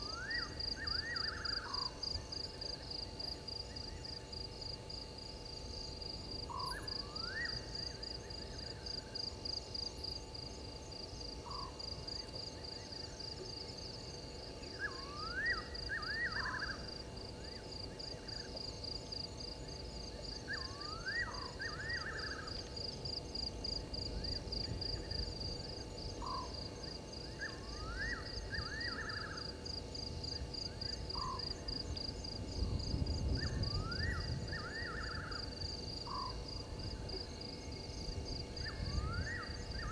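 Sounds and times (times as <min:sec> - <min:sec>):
insect chorus pulsing: 0:00.0 - 0:39.9.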